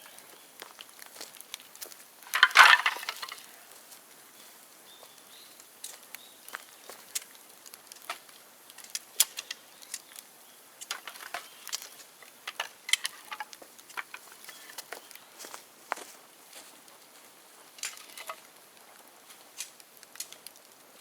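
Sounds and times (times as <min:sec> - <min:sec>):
bamboo bonfire crackling: 0:00.0 - 0:21.0.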